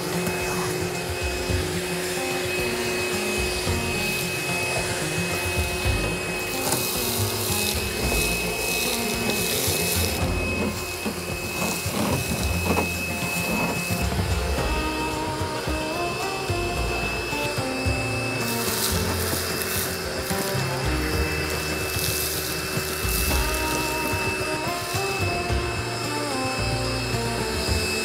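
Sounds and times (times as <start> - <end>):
background music: 0.0 - 28.0
high hiss: 0.0 - 28.0
machine rushing with whine: 0.0 - 28.0.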